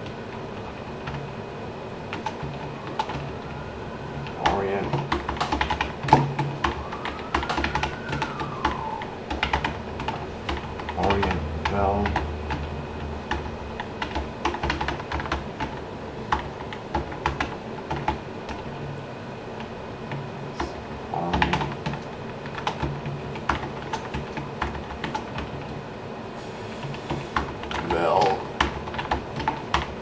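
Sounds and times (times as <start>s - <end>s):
computer keyboard typing: 1.0s - 1.3s, 2.1s - 3.4s, 4.2s - 18.7s, 19.6s - 25.7s, 26.8s - 30.0s.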